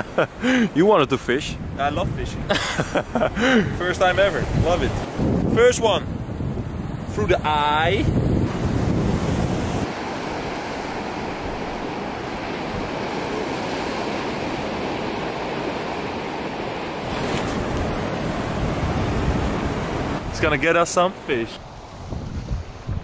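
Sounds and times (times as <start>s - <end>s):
sea surf on rocky shore: 0.0s - 23.0s
wind buffeting microphone: 1.3s - 20.7s, 21.6s - 23.0s.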